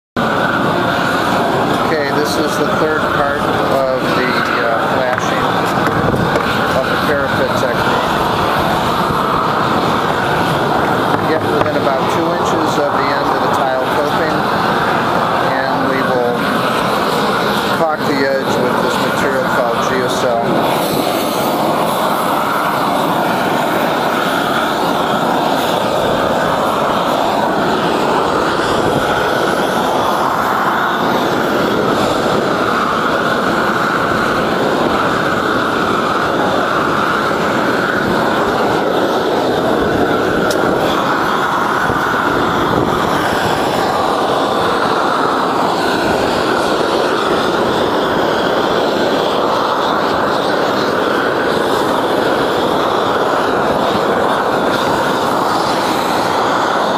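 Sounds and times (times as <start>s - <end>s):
propane torch burning: 0.2s - 56.9s.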